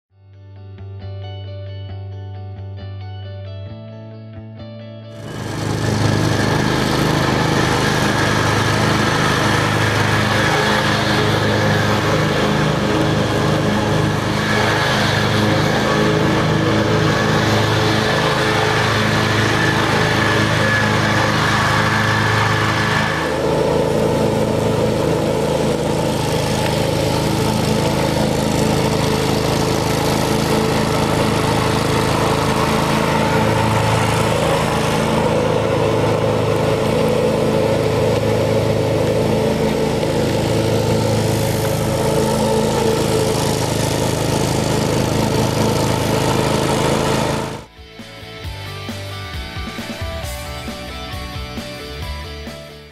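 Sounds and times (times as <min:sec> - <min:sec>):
lawn mower engine running: 0:05.1 - 0:52.6.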